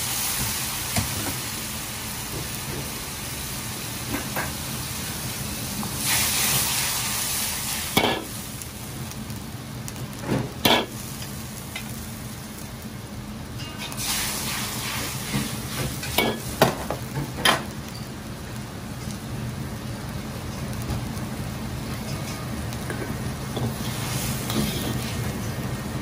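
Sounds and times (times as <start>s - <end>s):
gas burner roar: 0.0s - 26.0s
soup boiling and sizzling in wok: 0.0s - 26.0s.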